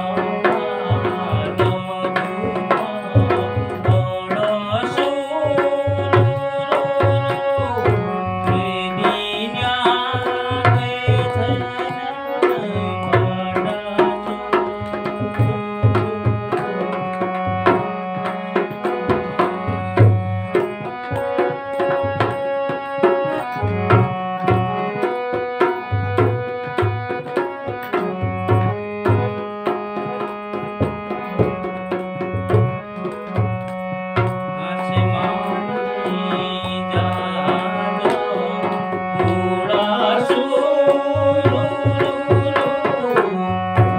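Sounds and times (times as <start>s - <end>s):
harmonium folk melody: 0.0s - 43.9s.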